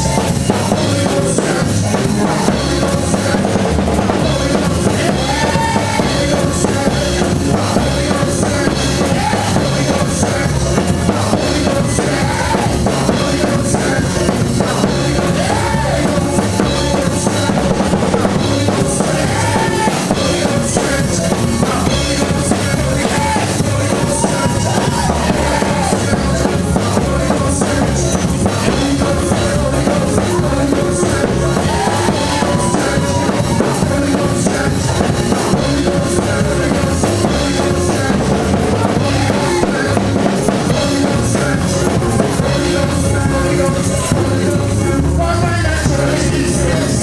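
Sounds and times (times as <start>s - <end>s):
bass drum beat: 0.0s - 47.0s
gospel worship band music: 0.0s - 47.0s.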